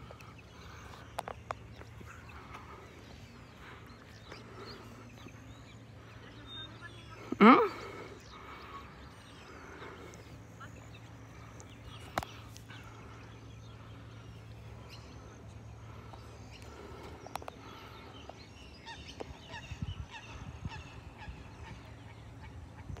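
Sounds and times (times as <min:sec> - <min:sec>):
birds chirping and calling: 0:00.0 - 0:23.0
low steady hum: 0:00.0 - 0:23.0.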